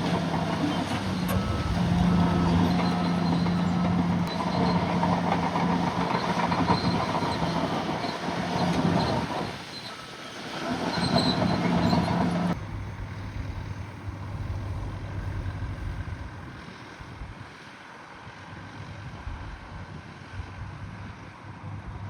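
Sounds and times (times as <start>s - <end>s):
heavy machine engine running: 0.0s - 21.9s.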